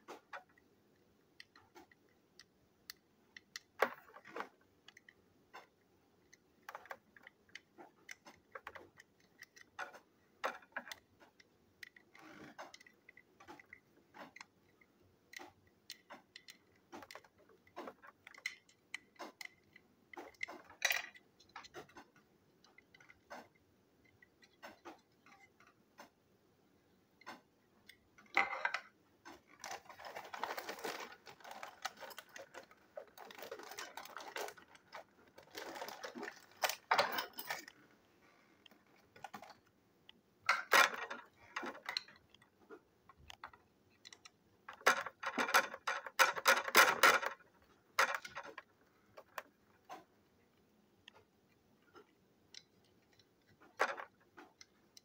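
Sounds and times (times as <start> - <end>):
plastic toy clicking and clattering: 1.3 - 26.2, 27.2 - 37.9, 38.6 - 39.7, 40.5 - 42.5, 43.1 - 50.1, 51.0 - 55.0.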